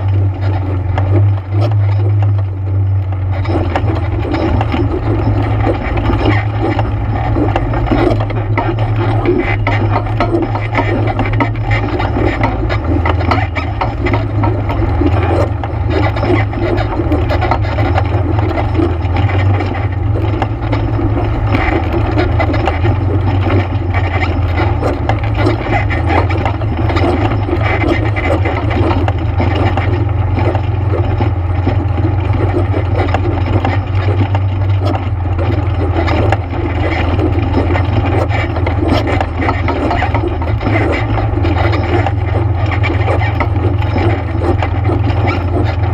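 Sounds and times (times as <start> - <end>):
atv engine droning: 0.0 - 45.9
machine clattering: 0.0 - 45.9.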